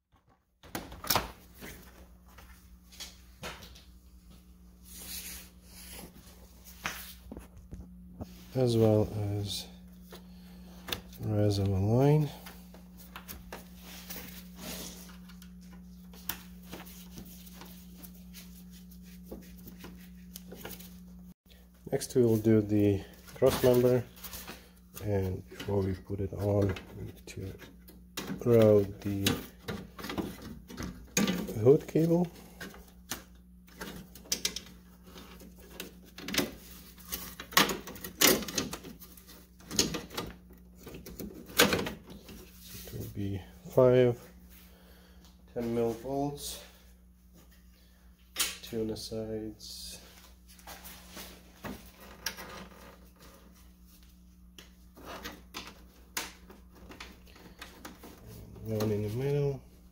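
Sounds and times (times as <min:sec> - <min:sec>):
steady low hum: 0:00.6 - 0:59.9.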